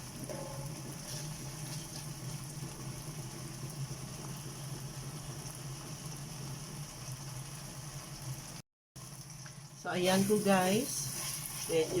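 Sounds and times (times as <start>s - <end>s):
tomatoes sizzling in oil: 0.0s - 12.0s.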